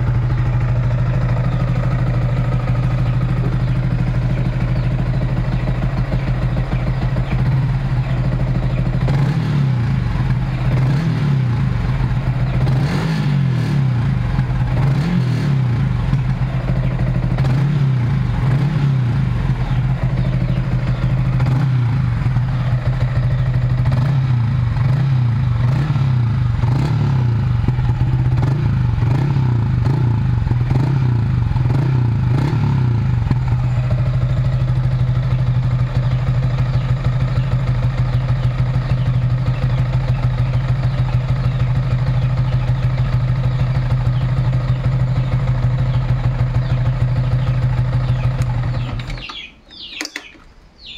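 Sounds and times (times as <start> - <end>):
motorcycle engine idling: 0.0 - 50.9
motorcycle engine revving: 0.0 - 50.9.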